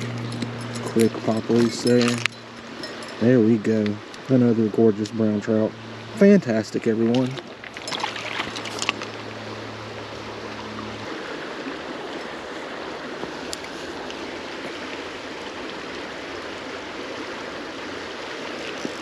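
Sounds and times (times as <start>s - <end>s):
low steady hum: 0.0s - 18.3s
creek water running over rocks: 0.0s - 19.0s.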